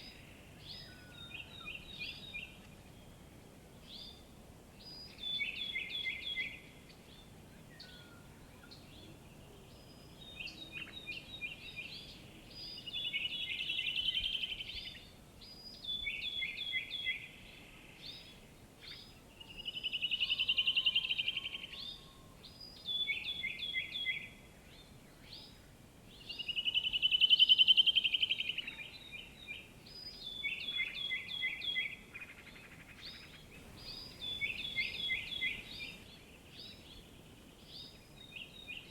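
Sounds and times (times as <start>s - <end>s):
faint outdoor hiss: 0.0s - 38.9s.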